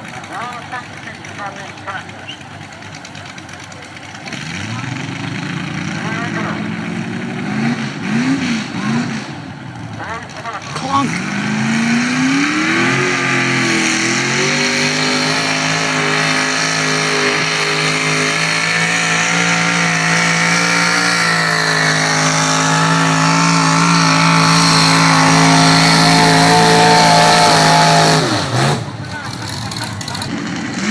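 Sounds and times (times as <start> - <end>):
tractor engine at high revs: 0.0 - 30.9.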